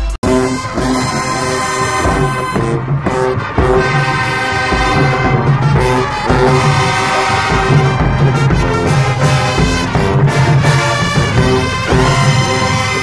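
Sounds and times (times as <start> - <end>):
brass holding sustained chords: 0.0 - 13.0
low drum beat: 0.2 - 13.0.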